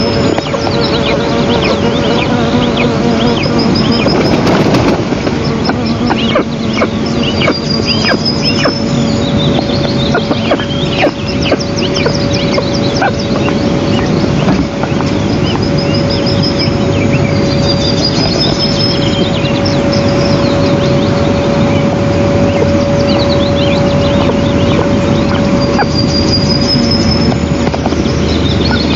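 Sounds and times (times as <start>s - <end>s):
birds chirping and trilling: 0.0s - 28.9s
steady hum: 0.0s - 28.9s
wind on microphone: 0.0s - 28.9s.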